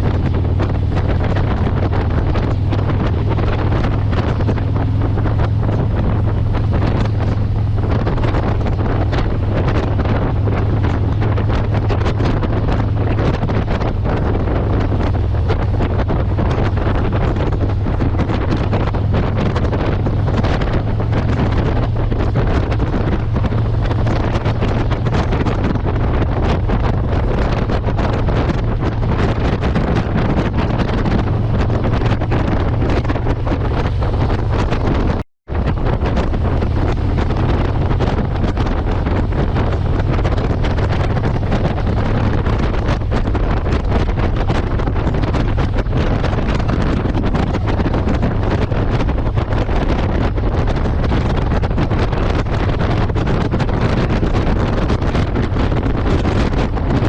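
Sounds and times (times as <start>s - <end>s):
low engine drone: 0.0s - 53.1s
wind buffeting microphone: 0.0s - 57.0s.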